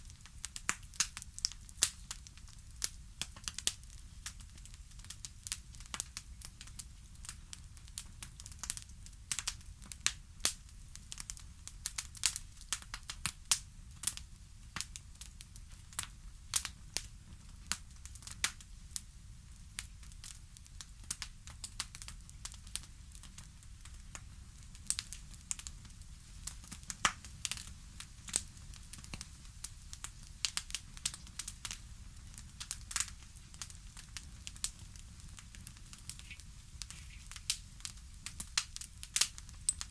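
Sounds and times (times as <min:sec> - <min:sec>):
fire rumbling: 0:00.0 - 0:39.9.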